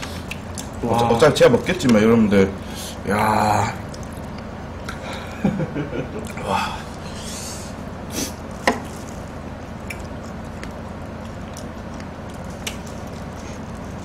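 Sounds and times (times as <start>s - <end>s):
wet chewing: 0.0s - 2.0s, 3.6s - 5.3s, 6.2s - 14.0s
faint steady hum: 0.0s - 14.0s.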